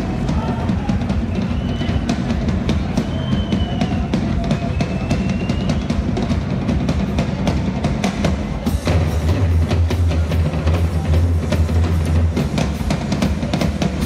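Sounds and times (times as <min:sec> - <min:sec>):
heavy low drum roll: 0:00.0 - 0:14.0
tom and bass drum rolls: 0:00.0 - 0:14.0.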